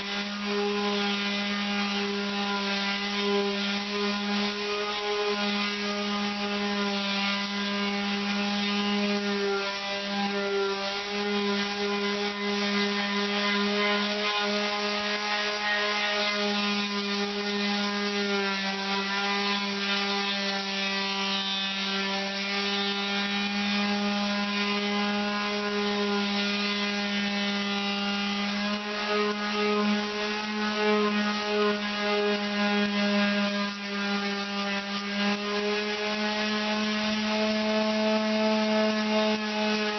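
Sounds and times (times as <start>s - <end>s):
power sander on metal: 0.0s - 39.9s.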